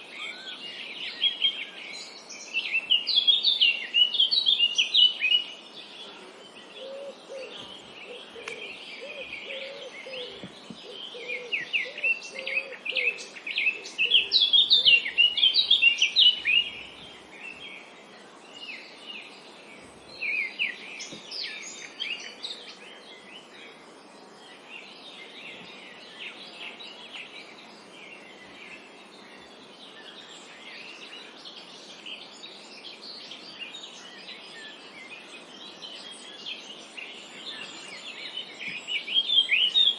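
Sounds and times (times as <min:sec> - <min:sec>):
background hiss: 0:00.0 - 0:39.9
small birds chirping and singing: 0:00.0 - 0:39.9.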